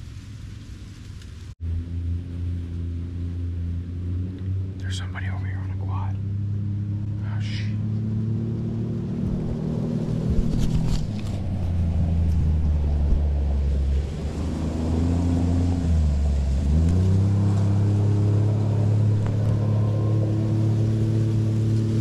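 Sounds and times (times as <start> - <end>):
utility vehicle engine passing: 1.6 - 22.0.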